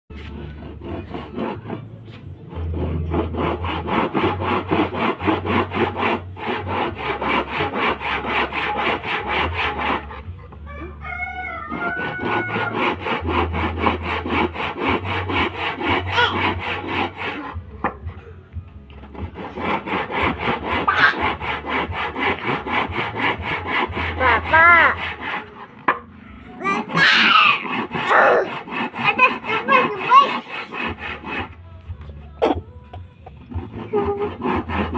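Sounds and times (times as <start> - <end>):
hand saw cutting wood: 0.1 - 18.1, 18.9 - 26.0, 26.6 - 32.6, 33.3 - 34.9.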